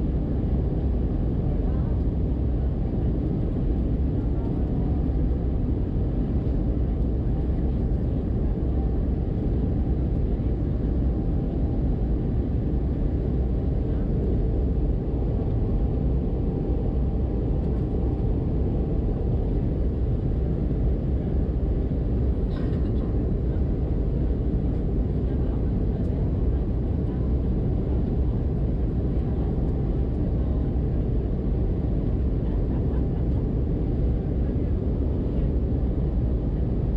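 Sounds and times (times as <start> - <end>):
airplane cabin drone: 0.0 - 36.9.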